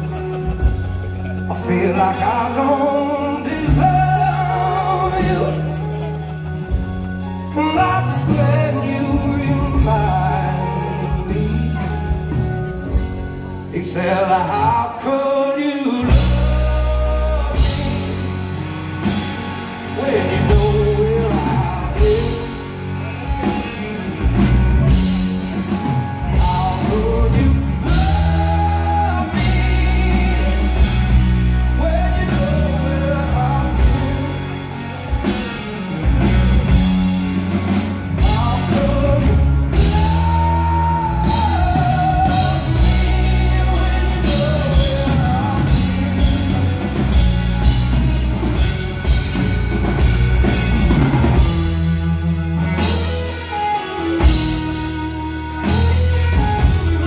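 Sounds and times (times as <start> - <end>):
drums: 0.0 - 57.0
electric guitar: 0.0 - 57.0
man singing: 0.0 - 57.0.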